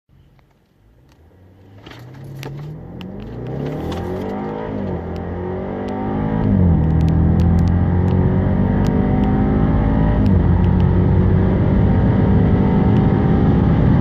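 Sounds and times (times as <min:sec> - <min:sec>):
car engine accelerating hard: 0:01.1 - 0:14.0.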